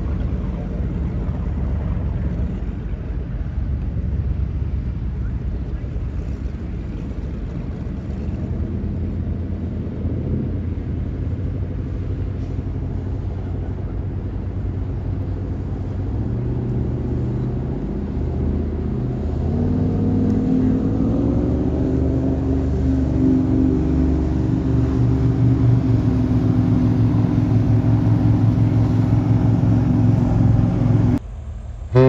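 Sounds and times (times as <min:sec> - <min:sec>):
diesel engine rumble: 0:00.0 - 0:32.0.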